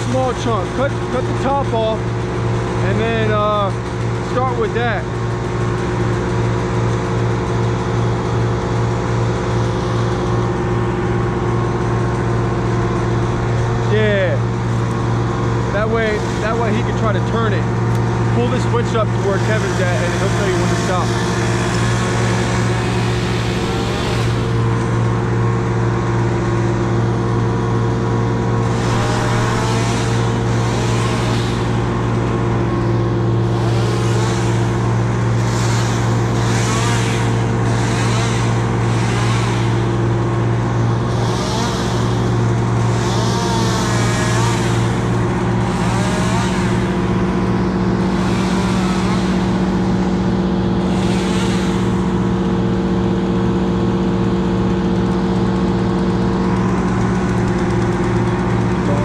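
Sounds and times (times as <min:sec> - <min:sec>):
large engine running: 0:00.0 - 0:59.0.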